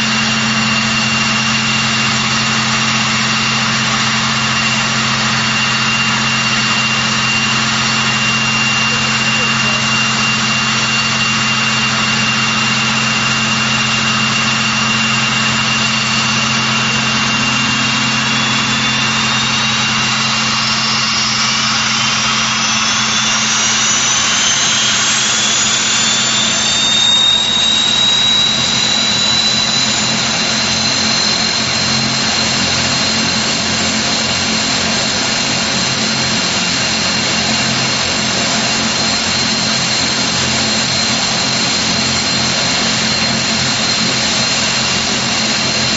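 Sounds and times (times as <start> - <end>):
turbine whine rising in pitch: 0.0 - 45.9
turboprop engines whining: 0.0 - 45.9.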